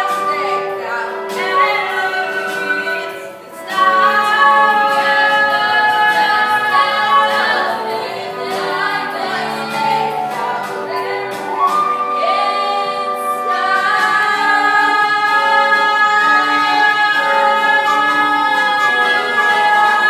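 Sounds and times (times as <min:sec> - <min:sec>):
children singing in chorus: 0:00.0 - 0:20.0.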